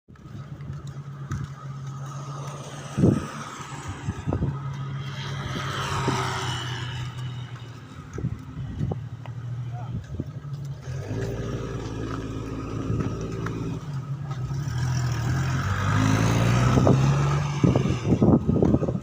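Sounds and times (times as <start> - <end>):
vehicle engine accelerating: 0.1 - 19.0.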